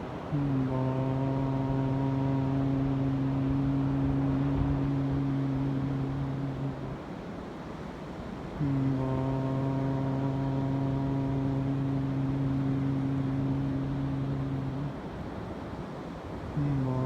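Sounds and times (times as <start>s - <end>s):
man chanting low note: 0.0s - 7.2s, 8.5s - 15.1s, 16.4s - 17.0s
wind: 0.0s - 17.0s.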